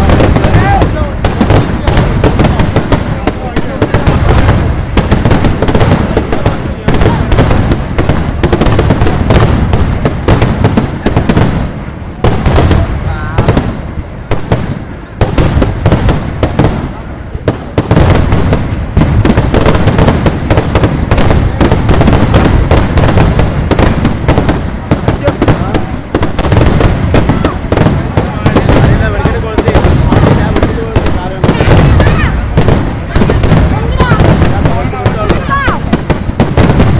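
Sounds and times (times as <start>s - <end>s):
rapid firecracker bangs: 0.0s - 36.9s.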